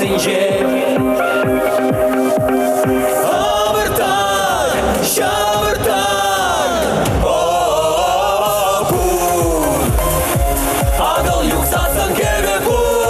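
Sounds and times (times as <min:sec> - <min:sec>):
men singing in harmony: 0:00.0 - 0:13.0
pop backing track: 0:00.0 - 0:13.0.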